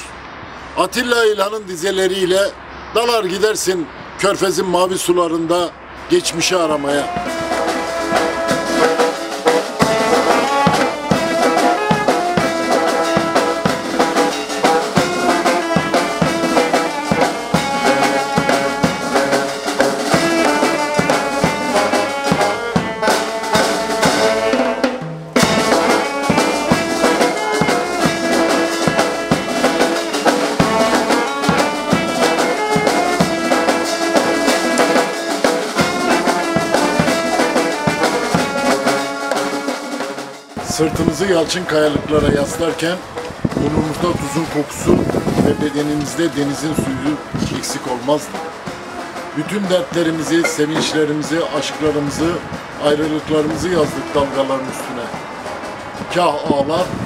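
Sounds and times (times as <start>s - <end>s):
street band playing: 0.0s - 57.0s
steady drum beat: 6.7s - 57.0s.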